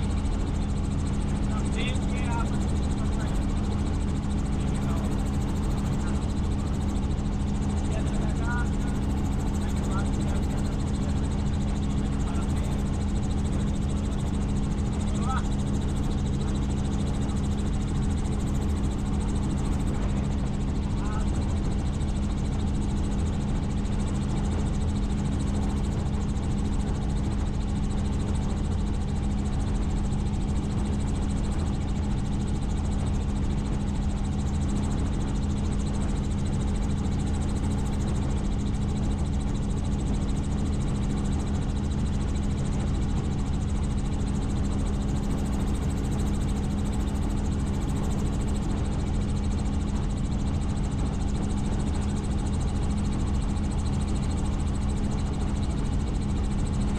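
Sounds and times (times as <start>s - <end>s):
helicopter flying: 0.0s - 56.9s.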